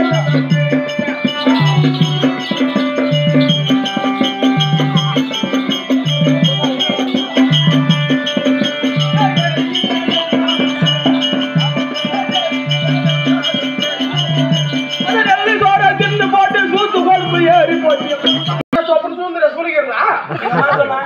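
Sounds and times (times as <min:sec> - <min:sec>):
drums steady beat: 0:00.0 - 0:18.7
sustained melodic tones: 0:00.0 - 0:19.1.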